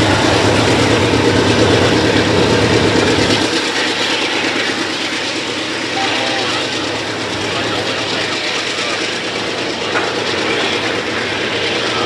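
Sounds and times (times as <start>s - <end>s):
deep low rumble: 0.0s - 12.0s
steel wheels rumbling on rail: 0.0s - 12.0s.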